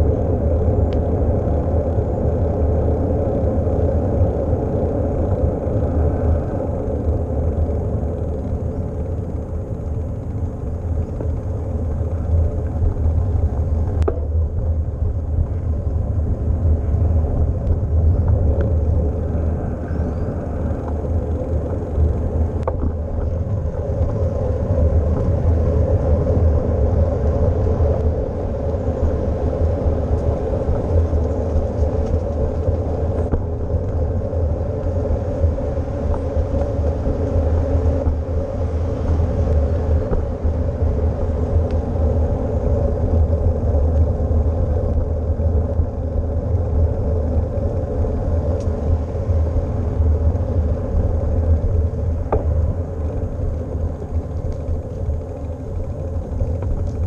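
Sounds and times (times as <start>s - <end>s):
bicycle tyres rolling on pavement: 0.0s - 57.0s
wind buffeting microphone: 0.0s - 57.0s.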